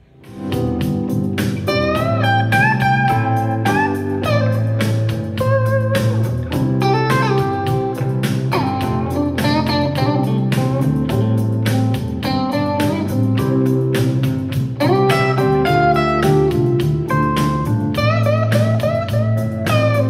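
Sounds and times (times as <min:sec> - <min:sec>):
guitar music through speaker: 0:00.0 - 0:20.0.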